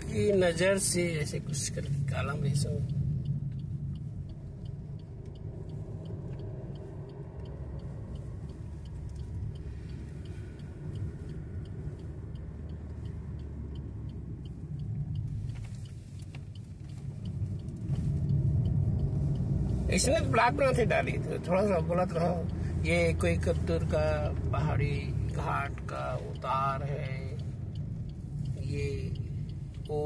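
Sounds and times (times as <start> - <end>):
car engine and tyres rumbling: 0.0 - 30.0
light regular ticking: 0.0 - 30.0.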